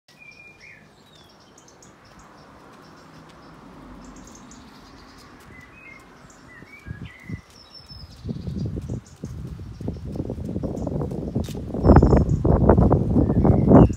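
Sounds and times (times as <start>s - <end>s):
birds chirping and singing: 0.1s - 13.9s.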